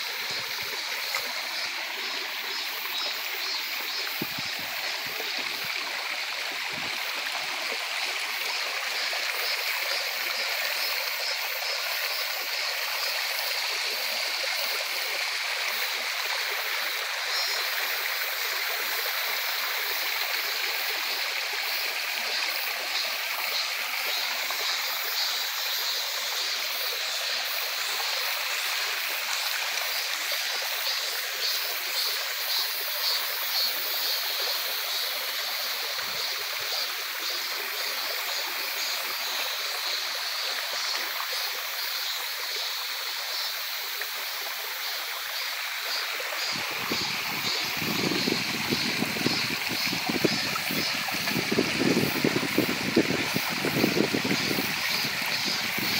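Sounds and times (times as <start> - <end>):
cicadas singing: 0.0 - 55.9
stream rushing over rocks: 0.0 - 55.9.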